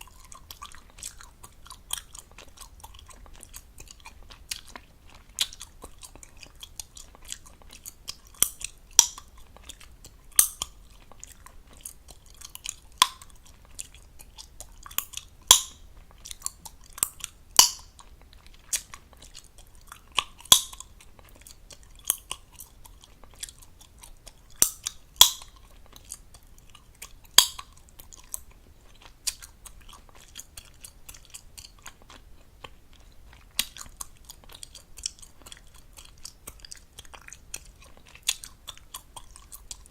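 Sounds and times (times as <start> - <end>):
gum pops and snaps: 0.0 - 32.8, 33.4 - 39.9
gum chewing with wet smacking: 0.0 - 39.9.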